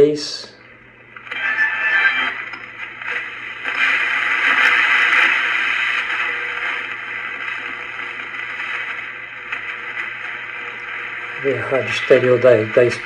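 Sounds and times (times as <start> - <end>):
faint steady hum: 0.0 - 13.0
radio static hiss: 1.1 - 13.0.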